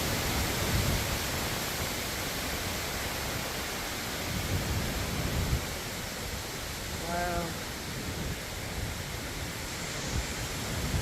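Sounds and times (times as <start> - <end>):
strong wind through trees: 0.0 - 11.0
wind buffeting microphone: 0.0 - 11.0.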